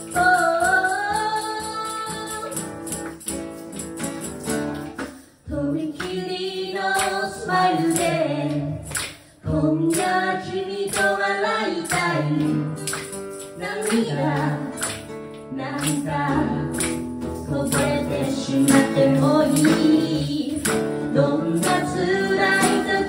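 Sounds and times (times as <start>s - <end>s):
woman singing: 0.0s - 2.8s, 5.5s - 12.9s, 13.6s - 23.0s
strummed acoustic guitar: 0.0s - 5.8s, 7.0s - 23.0s
hand claps: 2.3s - 23.0s.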